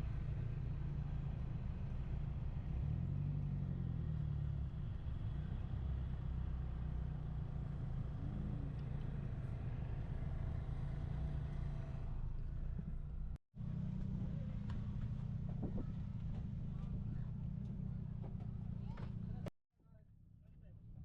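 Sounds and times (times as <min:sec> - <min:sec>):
vehicle engine drone: 0:00.0 - 0:21.0.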